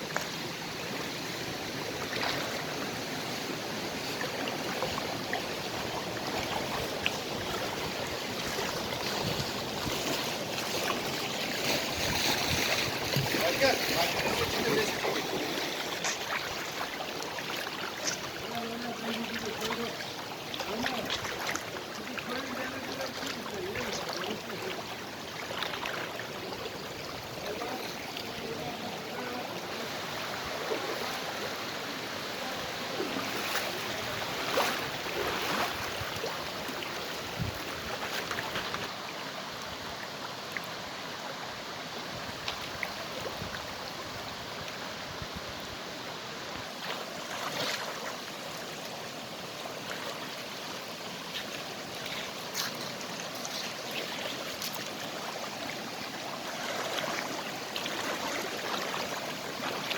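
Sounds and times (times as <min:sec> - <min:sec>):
creek water over stones: 0:00.0 - 0:59.9.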